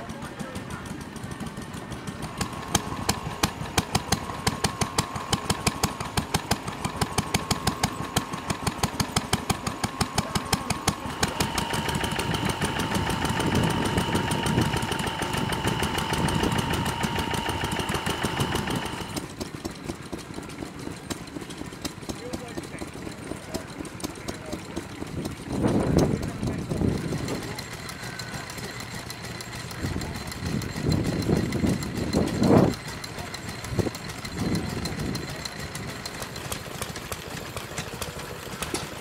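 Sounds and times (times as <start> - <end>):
engine running with whine: 0.0 - 39.0
stationary engine exhaust beat: 0.0 - 39.0.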